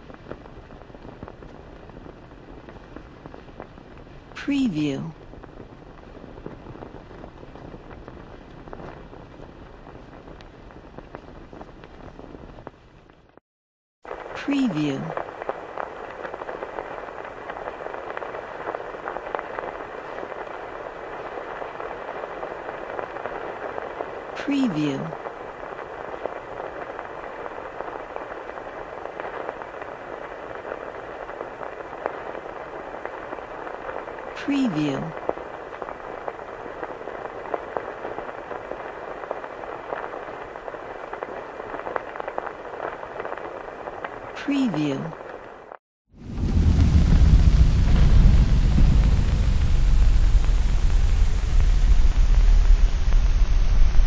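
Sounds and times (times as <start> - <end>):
film hiss with crackles and pops: 0.0 - 13.4, 14.0 - 54.0.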